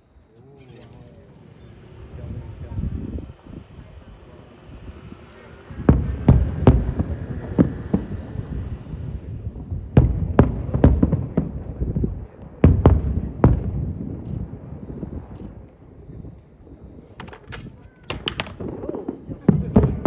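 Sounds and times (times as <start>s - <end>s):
fireworks booming and cracking: 1.6s - 15.3s, 17.2s - 20.0s.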